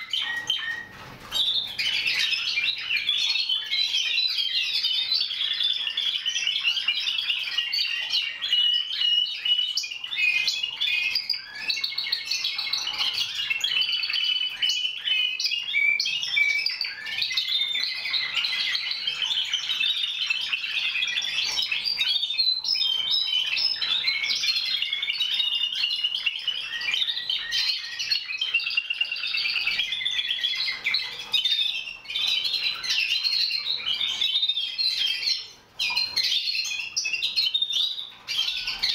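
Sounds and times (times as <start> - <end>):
canaries singing trills: 0.0 - 38.9.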